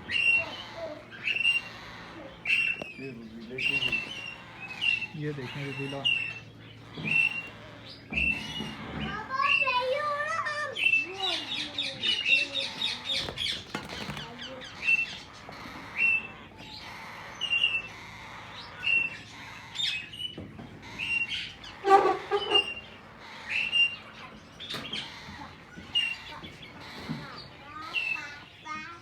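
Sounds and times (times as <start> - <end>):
parakeet squawk: 0.0 - 29.0
parakeets chirping: 0.0 - 29.0.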